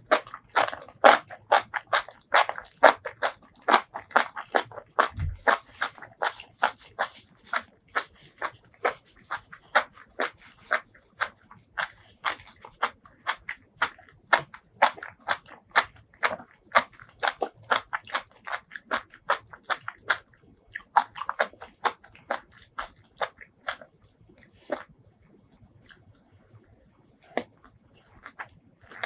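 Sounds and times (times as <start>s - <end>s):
crunchy chewing: 0.0s - 24.9s, 27.1s - 29.0s.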